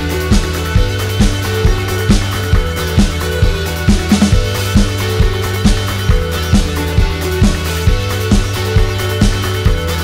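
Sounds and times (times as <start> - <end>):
drum beat: 0.0 - 10.0
sustained low bass: 0.0 - 10.0.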